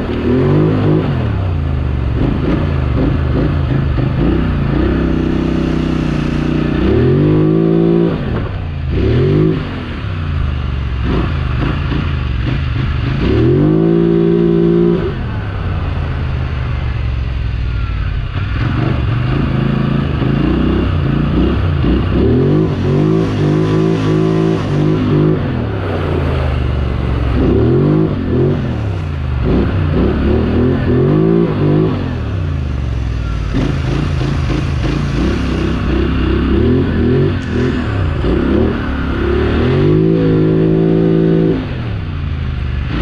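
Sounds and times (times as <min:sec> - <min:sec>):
quad engine revving: 0:00.0 - 0:15.6, 0:18.3 - 0:42.0
wind: 0:00.0 - 0:43.0.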